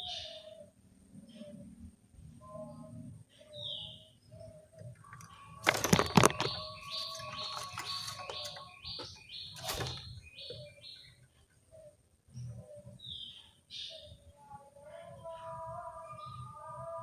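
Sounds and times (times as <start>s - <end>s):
doves cooing: 0.0s - 14.3s
small bird chirping: 0.0s - 16.7s.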